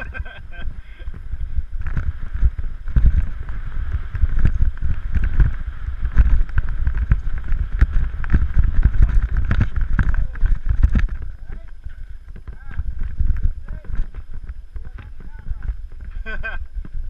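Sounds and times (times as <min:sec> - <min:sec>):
steady hum: 0:00.0 - 0:17.0
wind buffeting microphone: 0:00.0 - 0:17.0.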